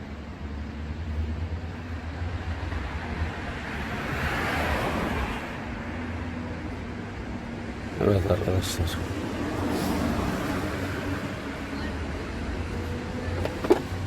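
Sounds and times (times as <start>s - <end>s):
passing road vehicle rumble: 0.0s - 14.0s.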